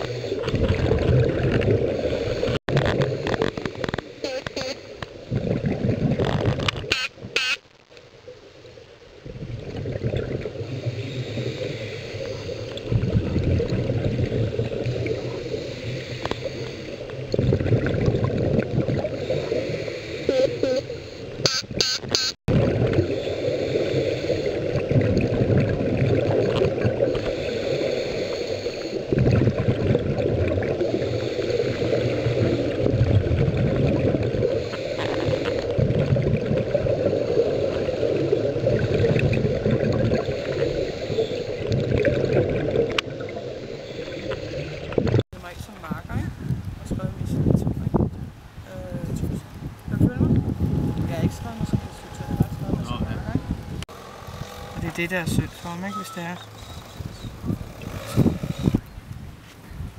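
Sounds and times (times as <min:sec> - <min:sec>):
underwater regulator bubbling: 0:00.0 - 0:07.6, 0:09.2 - 0:45.2, 0:46.4 - 0:59.0.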